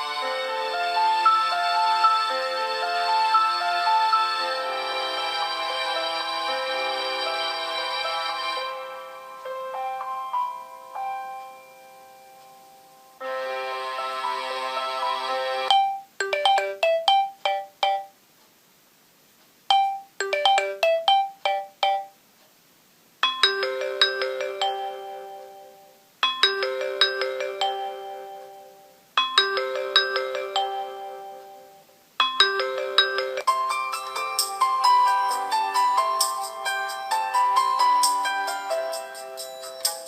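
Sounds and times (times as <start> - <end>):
electronic ringtone melodies: 0.0 - 5.8, 8.6 - 18.2, 19.7 - 22.2, 23.2 - 40.0.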